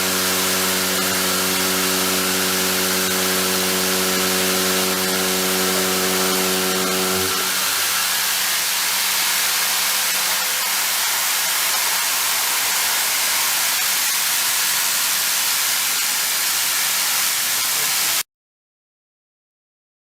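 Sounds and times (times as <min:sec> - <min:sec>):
spray hissing: 0:00.0 - 0:18.2.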